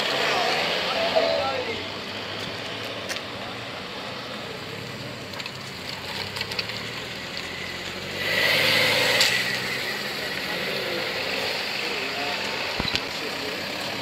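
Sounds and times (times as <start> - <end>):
car engines at low revs: 0.0 - 14.0.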